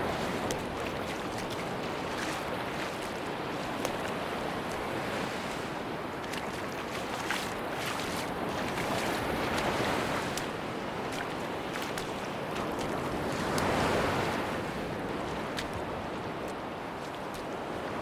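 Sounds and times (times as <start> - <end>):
waves washing on a beach: 0.0 - 18.0.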